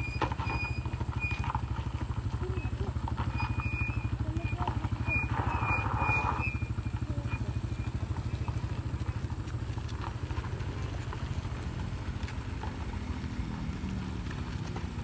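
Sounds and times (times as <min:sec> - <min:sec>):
small motorcycle engine puttering: 0:00.0 - 0:15.0.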